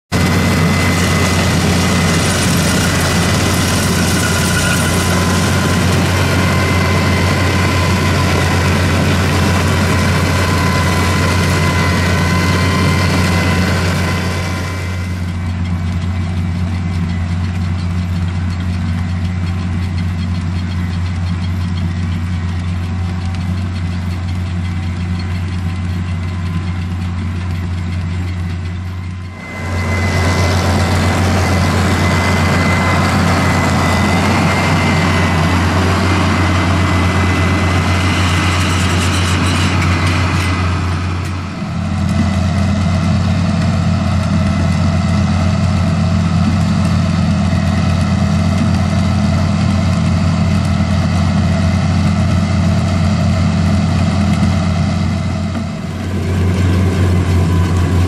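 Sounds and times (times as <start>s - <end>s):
broad high-pitched machine noise: 0.0s - 58.0s
diesel engine running: 0.0s - 58.0s.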